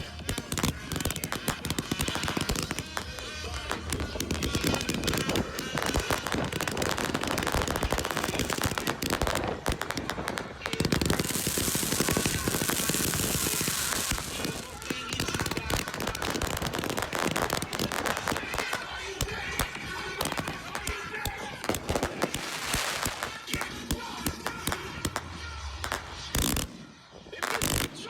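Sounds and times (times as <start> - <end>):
hissing crackle: 0.0 - 26.8
firecrackers popping: 0.0 - 28.0.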